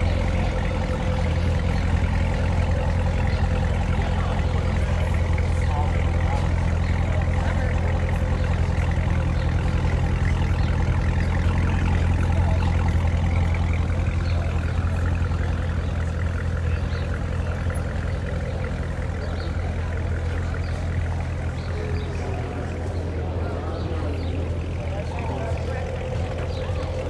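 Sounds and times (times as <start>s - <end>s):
car engine idling with deep burble: 0.0s - 27.0s.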